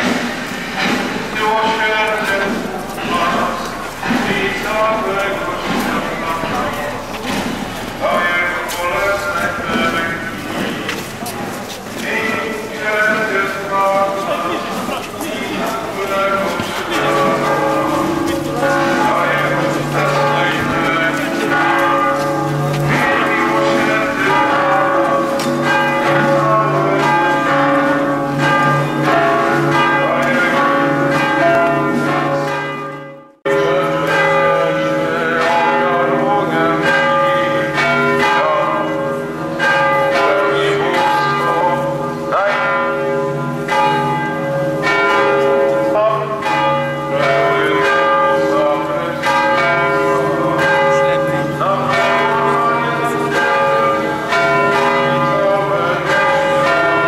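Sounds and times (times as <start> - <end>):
church bells ringing: 0.0 - 57.0.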